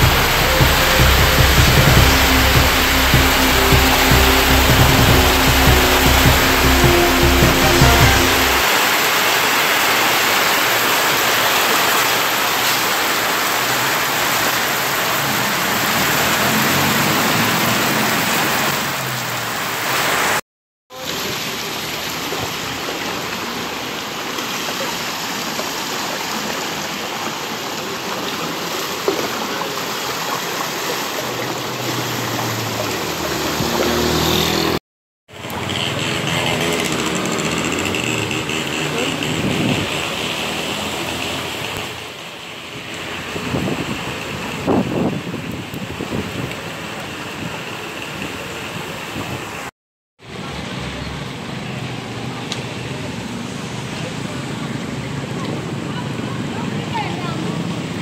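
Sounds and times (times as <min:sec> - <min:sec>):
floodwater rushing: 0:00.0 - 0:20.4, 0:21.0 - 0:58.0
heavy rain pouring on street: 0:00.0 - 0:58.0.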